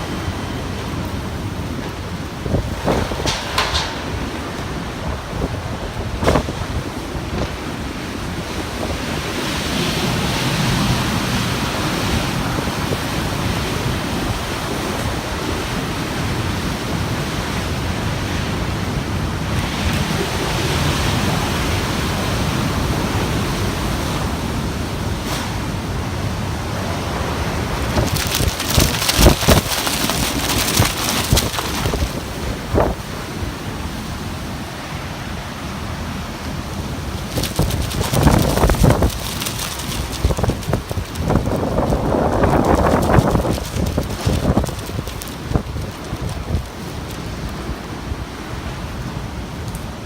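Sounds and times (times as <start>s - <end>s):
strong wind buffeting microphone: 0.0s - 50.0s.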